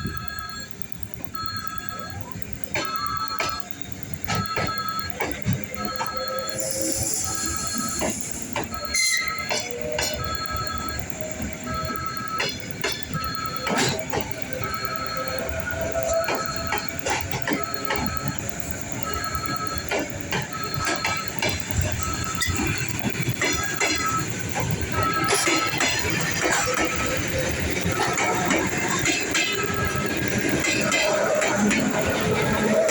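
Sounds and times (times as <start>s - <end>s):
steady electronic beep: 0.0s - 32.9s
wheels clicking over rail joints: 0.0s - 32.9s
train wheels squealing: 4.3s - 32.9s.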